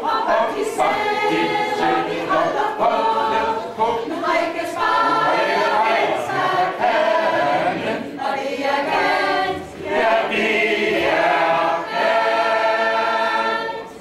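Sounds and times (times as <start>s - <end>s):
mixed choir singing: 0.0s - 14.0s.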